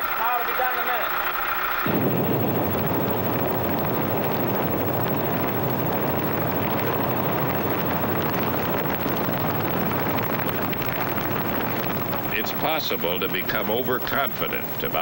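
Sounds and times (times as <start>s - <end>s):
gasoline fire burning: 0.1s - 15.0s.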